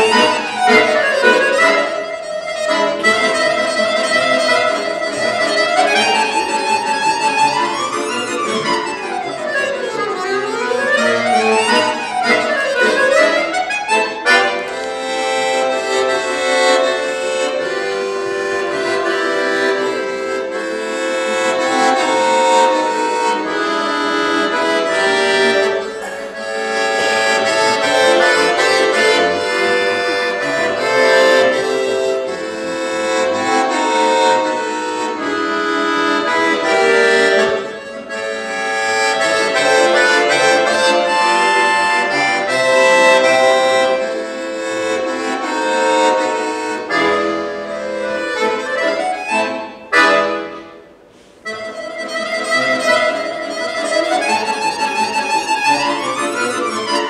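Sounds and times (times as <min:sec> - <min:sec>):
button accordion playing fast: 0:00.0 - 0:57.0.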